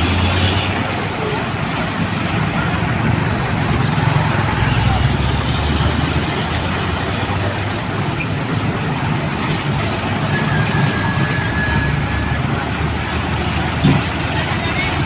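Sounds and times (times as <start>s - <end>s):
road traffic noise: 0.0s - 15.0s
truck engines rumbling: 0.0s - 15.0s.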